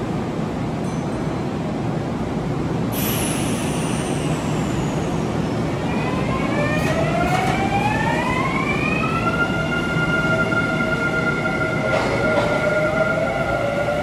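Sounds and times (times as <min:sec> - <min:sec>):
low rumble of train: 0:00.0 - 0:14.0.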